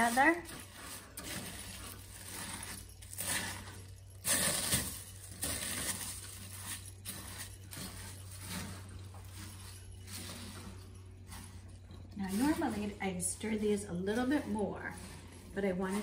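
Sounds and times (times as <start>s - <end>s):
spatula scraping saucepan: 0.0s - 4.8s, 5.4s - 16.0s.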